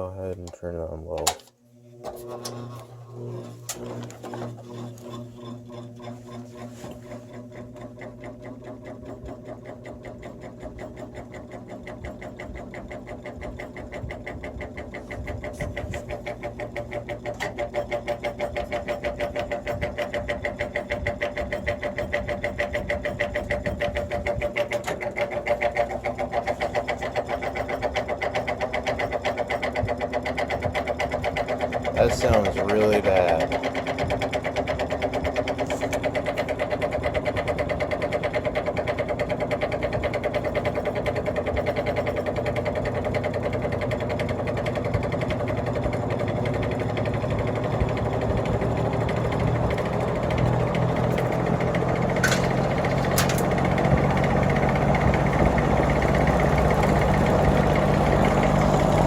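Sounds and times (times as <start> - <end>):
fan motor hum pulsing: 0.0 - 59.0.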